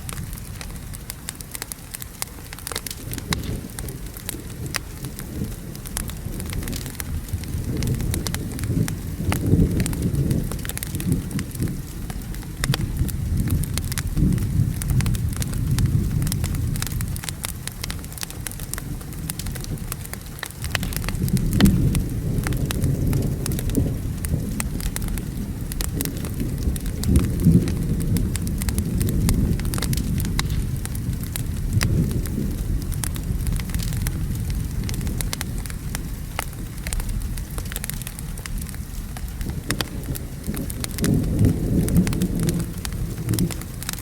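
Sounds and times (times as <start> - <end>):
rain: 0.0 - 44.0
thunder rumbles: 0.0 - 44.0
wood fire crackling and popping: 0.0 - 44.0.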